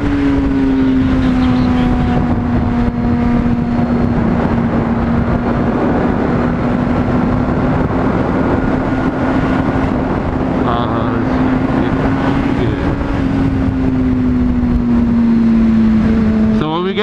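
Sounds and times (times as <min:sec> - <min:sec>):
sport bike engine cruising: 0:00.0 - 0:17.0
wind rush on microphone: 0:00.0 - 0:17.0.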